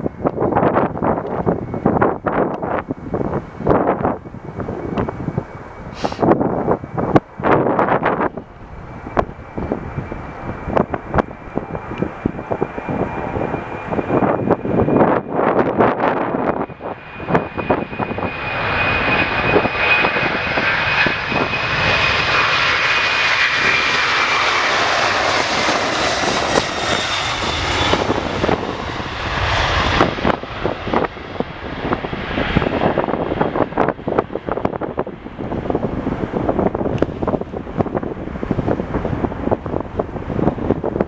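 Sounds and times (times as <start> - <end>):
high engine whine: 0.0 - 41.0
jet engines roaring: 0.0 - 41.0
wind buffeting microphone: 0.0 - 41.0.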